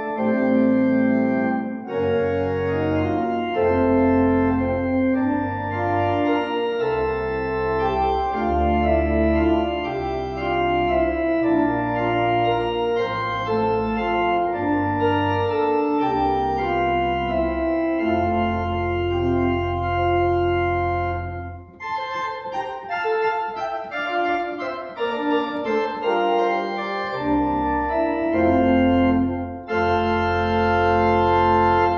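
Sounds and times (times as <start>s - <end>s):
church organ chords: 0.0s - 31.9s
organ bass notes: 0.0s - 31.9s.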